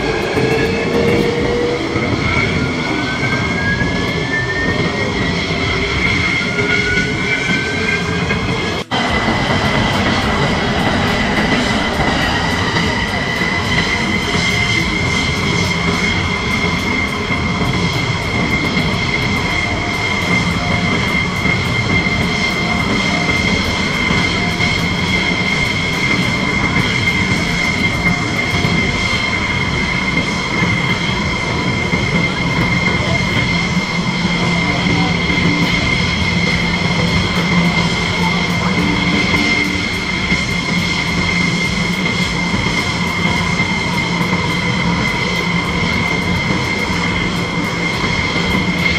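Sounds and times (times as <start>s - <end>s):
jet engines idling: 0.0s - 48.9s.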